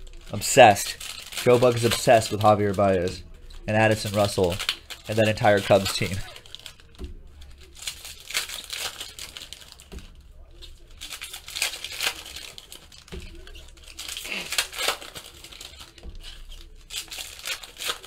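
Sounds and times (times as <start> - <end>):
card pack wrappers crinkling and tearing: 0.0 - 18.0.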